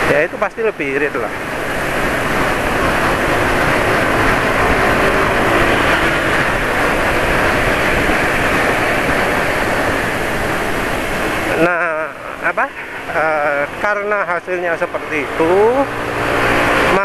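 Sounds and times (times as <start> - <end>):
motorbike engine drone: 0.0 - 17.0
road noise: 0.0 - 17.0
wind rushing: 0.0 - 17.0.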